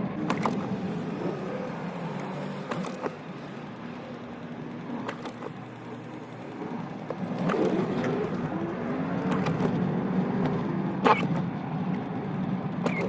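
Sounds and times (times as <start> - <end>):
car engine and road hum: 0.0 - 13.0
sharp clicks: 0.2 - 13.0.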